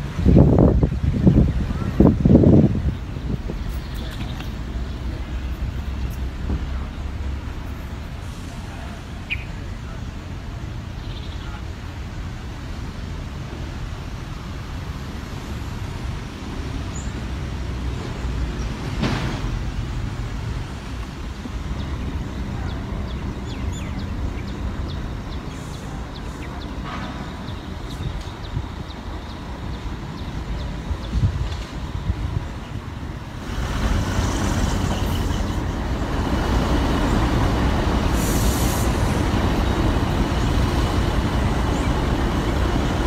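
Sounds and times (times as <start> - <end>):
low rumble of distant traffic: 0.0 - 43.0.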